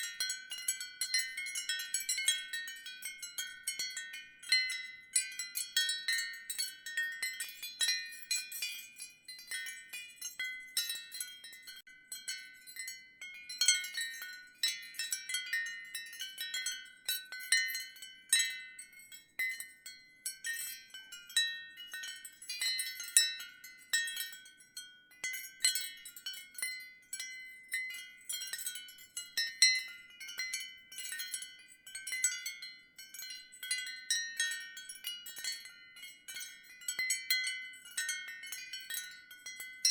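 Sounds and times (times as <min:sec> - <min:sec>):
ceramic wind chimes clinking: 0:00.0 - 0:39.9.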